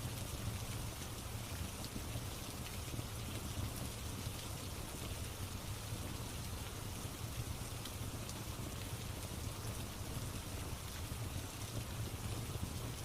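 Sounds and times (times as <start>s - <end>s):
steady rain: 0.0s - 13.0s
wood fire crackles: 0.1s - 13.0s.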